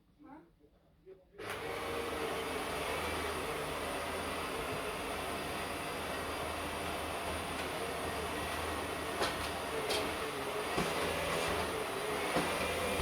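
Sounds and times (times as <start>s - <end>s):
vacuum cleaner running: 1.4s - 13.0s.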